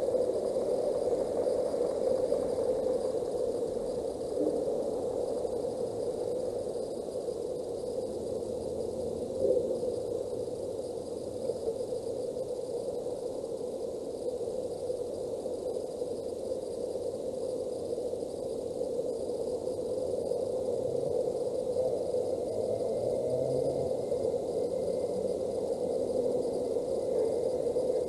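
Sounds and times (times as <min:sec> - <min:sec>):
static-like hiss: 0:00.0 - 0:28.0.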